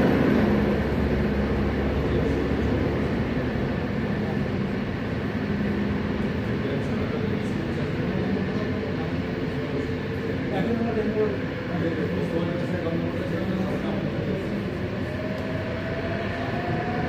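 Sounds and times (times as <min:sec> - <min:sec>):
helicopter engine and rotors: 0:00.0 - 0:17.0.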